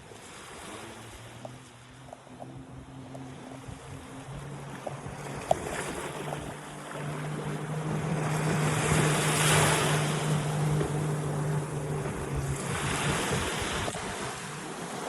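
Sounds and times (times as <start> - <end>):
sea waves breaking on shore: 0.0 - 15.0
steady low hum: 1.2 - 15.0.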